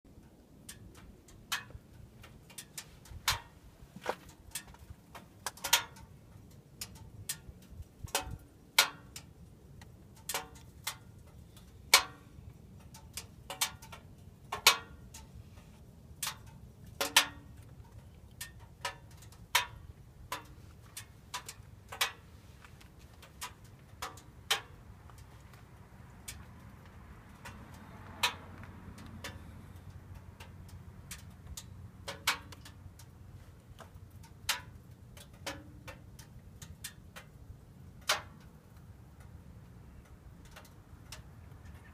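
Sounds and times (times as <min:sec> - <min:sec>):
engine ticking as it cools: 0:00.1 - 0:41.9.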